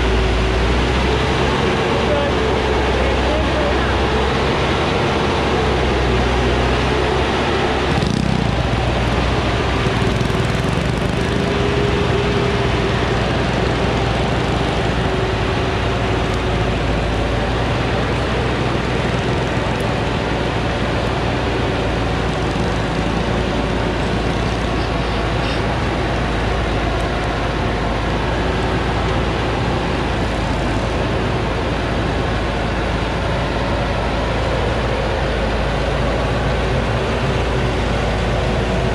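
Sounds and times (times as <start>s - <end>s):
diesel truck engine under load: 0.0s - 38.9s.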